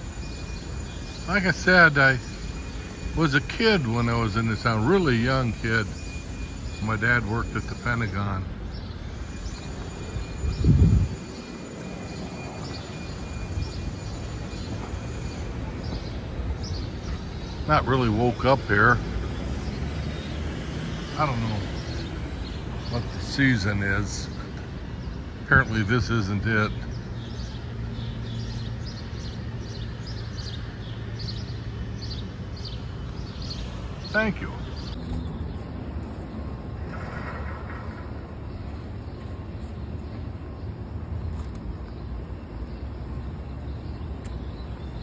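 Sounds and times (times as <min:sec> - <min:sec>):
small birds chirping: 0:00.0 - 0:36.8, 0:38.0 - 0:45.0
traffic rumble: 0:00.0 - 0:45.0.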